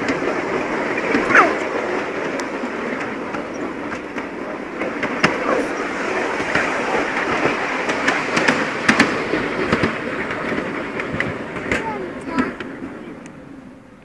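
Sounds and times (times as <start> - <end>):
rail joint clicks: 0.0 - 14.0
train wheels rumbling on rails: 0.0 - 14.0.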